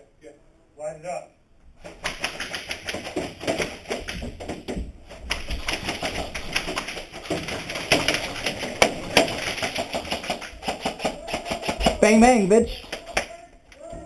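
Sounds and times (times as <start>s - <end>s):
airsoft guns firing: 1.8s - 13.4s.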